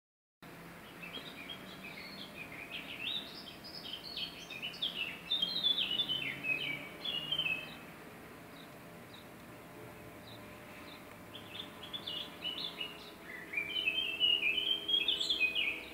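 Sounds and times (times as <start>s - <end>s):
faint outdoor hum: 0.4s - 15.9s
songbird singing: 0.4s - 15.9s.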